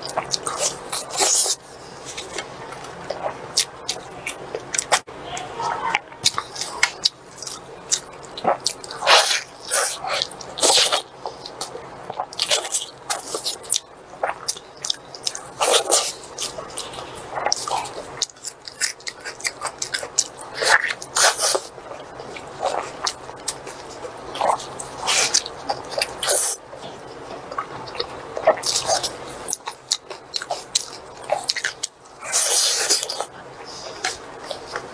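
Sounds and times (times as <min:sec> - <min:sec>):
person chewing food: 0:00.0 - 0:05.1, 0:05.9 - 0:34.9.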